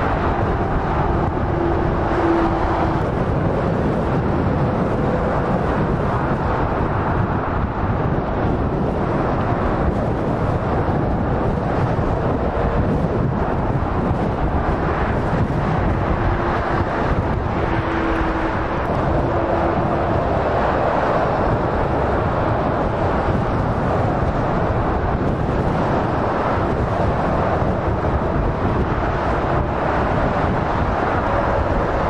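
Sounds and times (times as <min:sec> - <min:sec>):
motorway traffic passing: 0:00.0 - 0:32.0.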